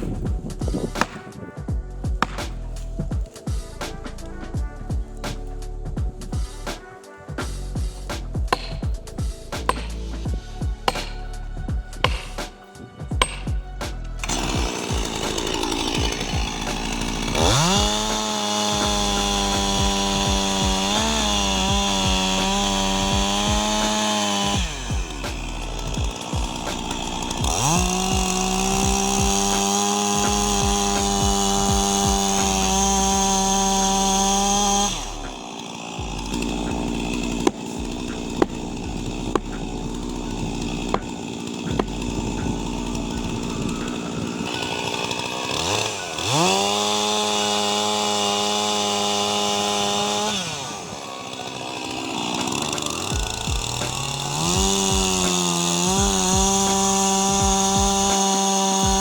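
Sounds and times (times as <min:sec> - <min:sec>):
chainsaw revving: 0:00.0 - 0:12.6, 0:13.2 - 0:59.0.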